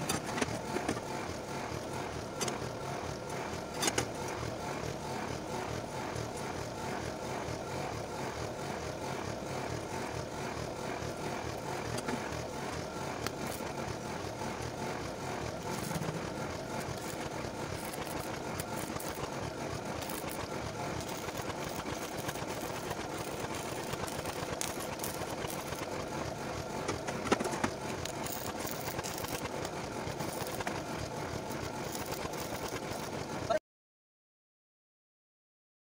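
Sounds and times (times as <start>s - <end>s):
small motor running: 0.0s - 33.6s.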